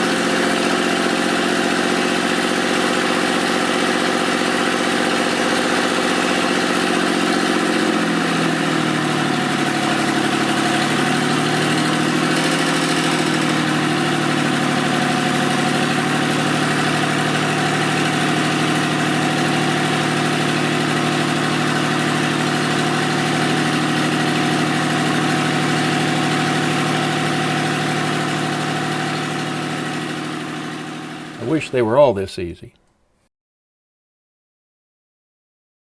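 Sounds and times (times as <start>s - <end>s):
diesel tractor engine running: 0.2s - 32.5s.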